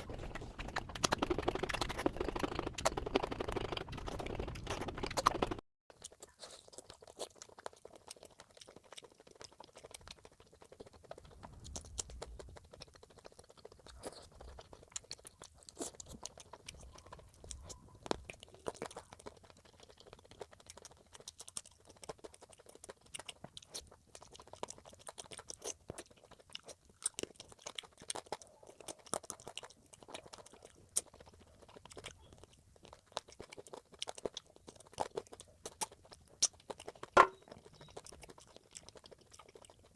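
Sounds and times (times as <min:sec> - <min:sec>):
person chewing: 0:00.0 - 0:39.9
wet mouth clicks: 0:00.0 - 0:39.9.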